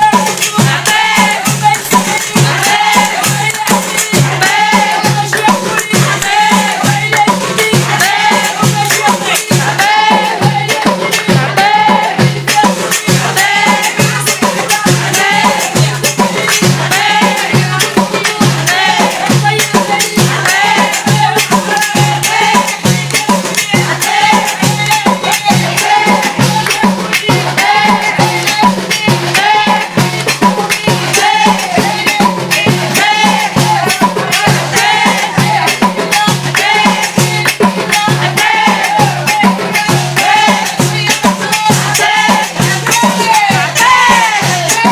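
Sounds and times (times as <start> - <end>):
hand percussion and drums: 0.0 - 44.9
woman singing: 0.0 - 44.9.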